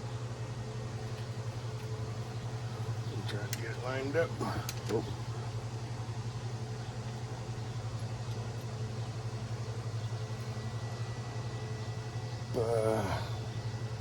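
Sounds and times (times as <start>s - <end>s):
low hum of motor: 0.0s - 14.0s.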